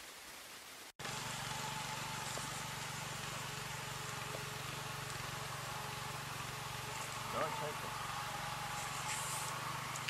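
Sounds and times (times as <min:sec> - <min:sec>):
walk-behind tractor engine running: 0:01.0 - 0:10.0.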